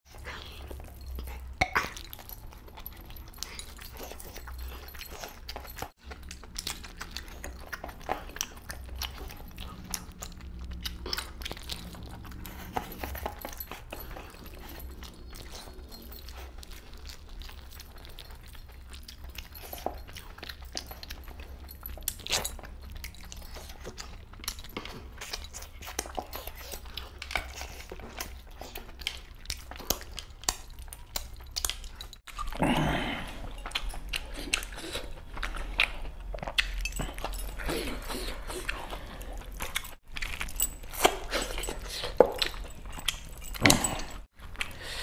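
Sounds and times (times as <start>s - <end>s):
wet chewing and lip smacking: 0.1s - 32.6s, 33.2s - 45.0s.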